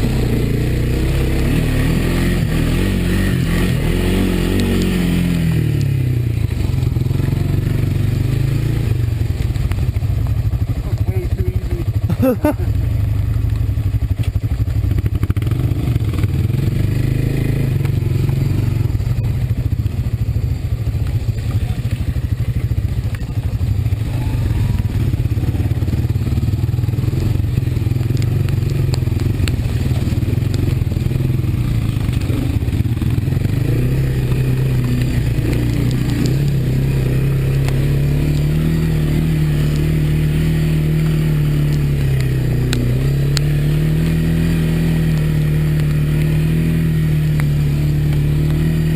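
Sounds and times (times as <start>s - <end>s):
quad engine running: 0.0s - 48.9s.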